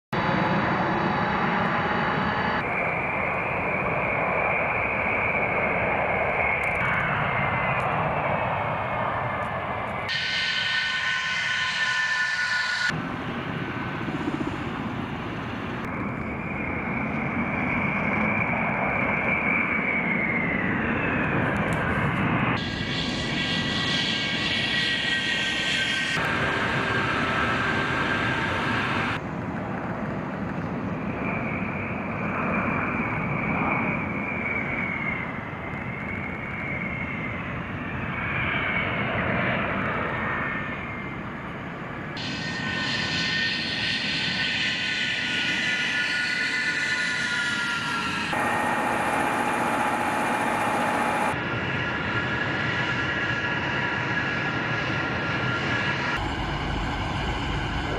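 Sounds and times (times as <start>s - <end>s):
jet engines with high whine: 0.1s - 57.9s.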